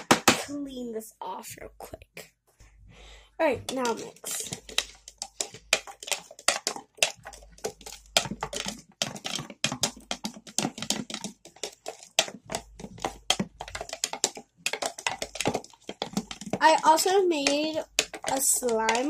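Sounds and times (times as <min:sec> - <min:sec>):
metal spoon scraping plastic tub: 0:03.5 - 0:19.0.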